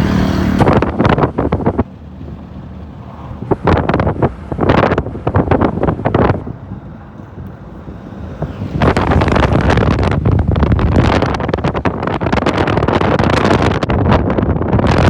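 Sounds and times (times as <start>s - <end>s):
low road rumble: 0.0s - 15.0s
wind buffeting microphone: 0.0s - 15.0s.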